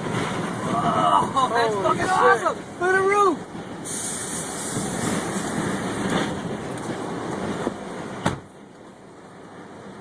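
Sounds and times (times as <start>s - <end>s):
wind buffeting and rushing: 0.0s - 10.0s.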